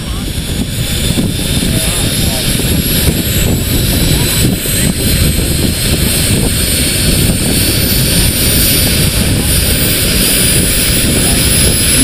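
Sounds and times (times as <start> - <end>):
exhaust rush: 0.0 - 12.0.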